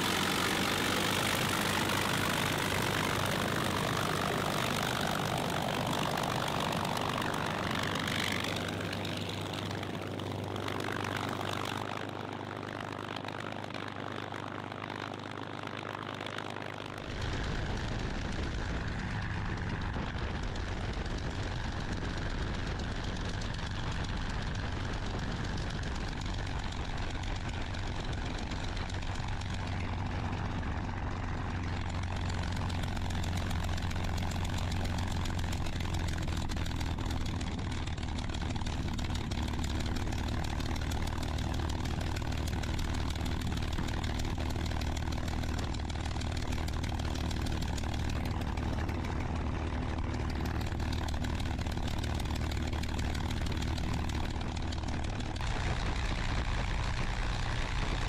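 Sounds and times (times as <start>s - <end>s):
aircraft engine running: 0.0s - 58.0s.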